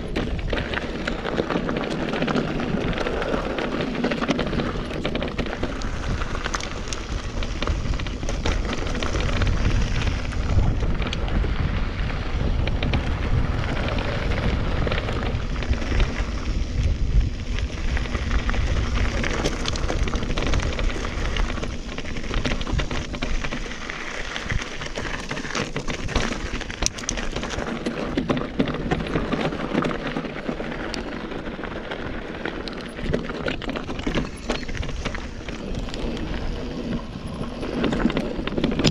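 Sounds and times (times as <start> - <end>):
bike clicks and rattles: 0.0 - 38.9
tyres crunching over stones: 0.0 - 38.9
wind on microphone: 0.0 - 38.9.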